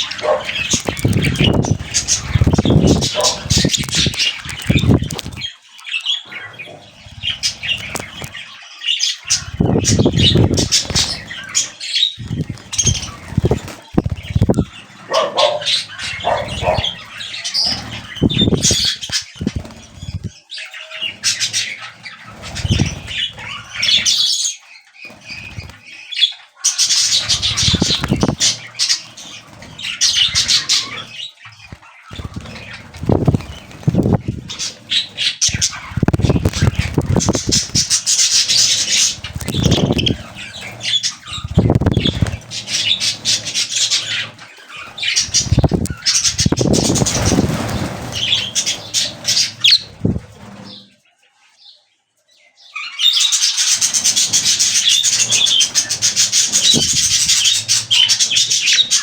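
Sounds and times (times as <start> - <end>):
budgerigars chirping: 0.0 - 50.9, 52.7 - 59.0
budgerigars flapping wings: 0.0 - 50.9, 53.3 - 59.0.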